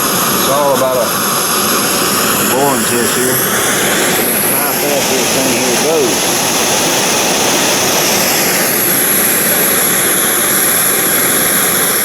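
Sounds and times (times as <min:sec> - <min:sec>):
gas burner flame hissing: 0:00.0 - 0:12.0
thin high whine: 0:00.0 - 0:12.0.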